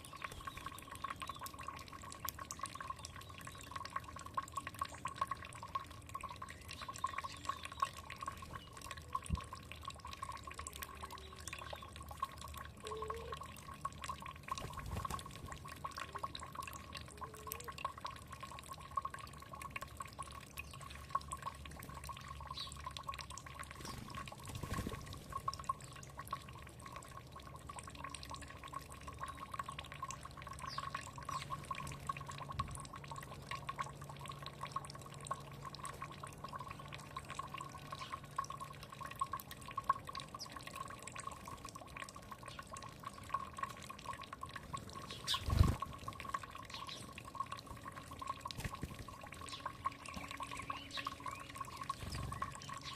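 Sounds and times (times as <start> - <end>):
water trickling and dripping: 0.0 - 52.9.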